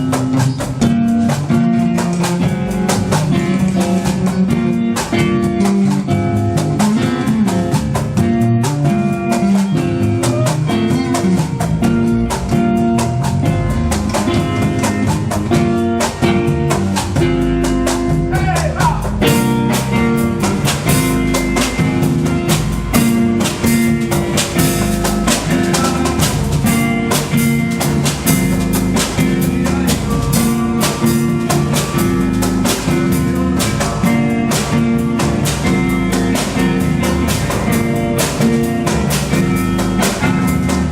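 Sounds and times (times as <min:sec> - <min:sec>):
bass line: 0:00.0 - 0:40.9
drum kit beat: 0:00.0 - 0:40.9
guitar: 0:00.0 - 0:40.9.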